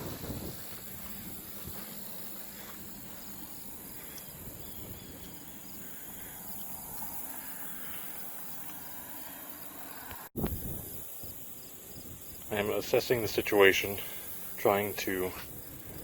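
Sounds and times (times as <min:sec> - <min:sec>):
high insect trill: 0:00.0 - 0:16.0
insects chirping: 0:00.0 - 0:16.0
low outdoor rumble: 0:00.0 - 0:16.0.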